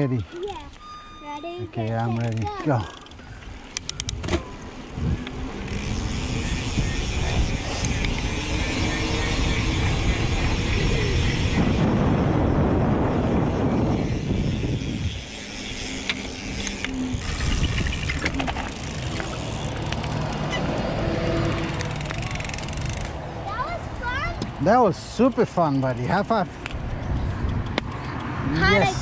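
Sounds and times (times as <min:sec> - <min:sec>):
bike clicks and rattles: 0:00.0 - 0:00.9, 0:01.7 - 0:12.1, 0:13.1 - 0:28.9
wind buffeting microphone: 0:03.2 - 0:25.0, 0:25.9 - 0:29.0.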